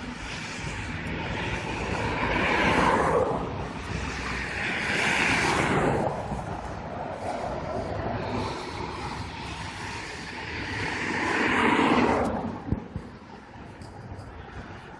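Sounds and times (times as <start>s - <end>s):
cars passing close: 0.0s - 14.9s
steady traffic hum: 0.0s - 14.9s.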